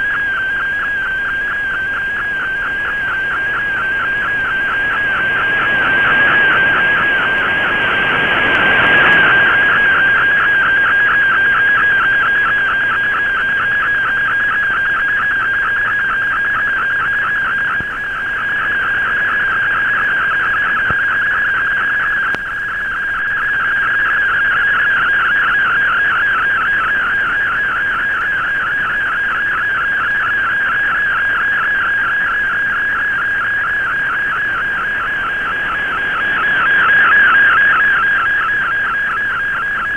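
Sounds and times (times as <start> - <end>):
warbling data tone: 1.2 - 30.6, 31.4 - 39.9.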